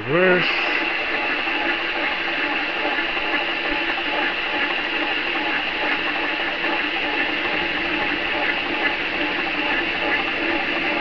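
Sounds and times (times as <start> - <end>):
metal lathe whirring: 0.0 - 11.0.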